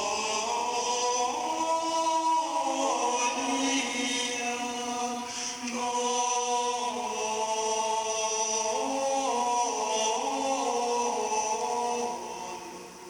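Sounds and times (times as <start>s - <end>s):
monks chanting in unison: 0.0s - 13.0s.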